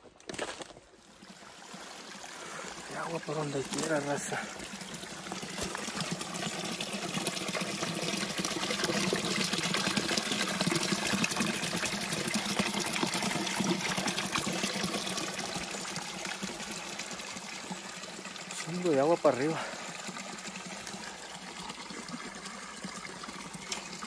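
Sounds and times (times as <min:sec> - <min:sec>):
creek water trickling over rocks: 0:00.1 - 0:24.0.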